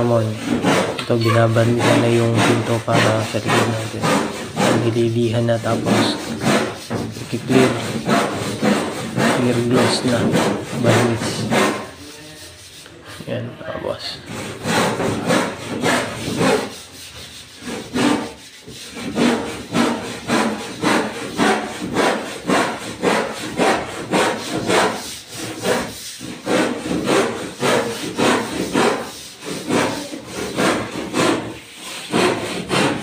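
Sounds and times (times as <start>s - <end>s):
sandpaper rubbing on wood: 0.0s - 13.0s, 13.8s - 33.0s.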